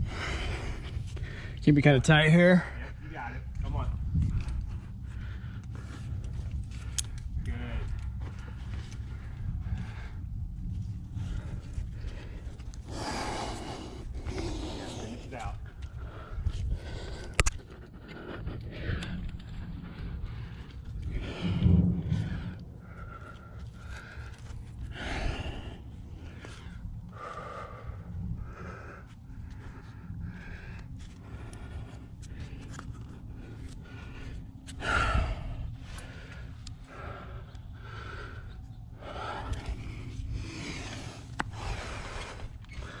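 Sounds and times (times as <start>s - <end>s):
person breathing hard: 0.0s - 1.6s, 2.5s - 43.0s.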